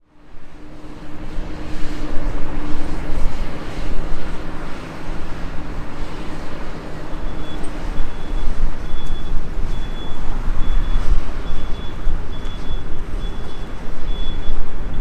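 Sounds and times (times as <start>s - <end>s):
diesel machinery engine hum: 0.0s - 15.0s.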